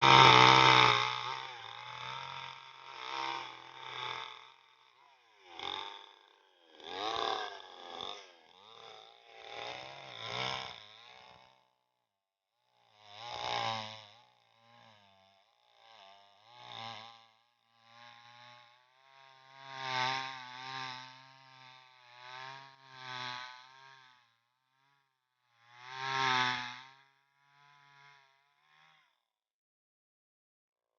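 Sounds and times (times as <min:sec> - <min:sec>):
chainsaw engine revving: 0:00.0 - 0:11.8, 0:12.8 - 0:24.4, 0:25.5 - 0:29.2.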